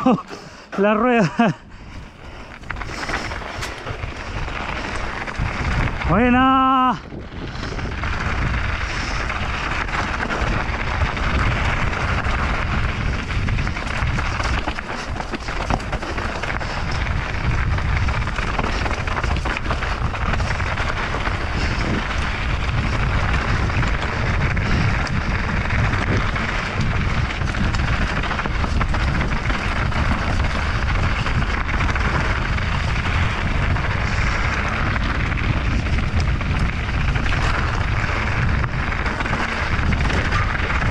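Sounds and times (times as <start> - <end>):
bike tyre noise on dirt: 0.0 - 40.9
wind rushing on microphone: 0.0 - 40.9.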